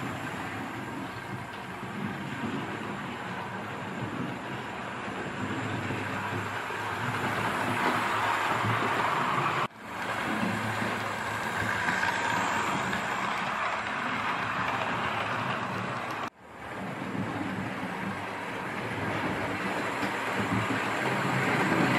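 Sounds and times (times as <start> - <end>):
model train running on track: 0.0 - 21.9.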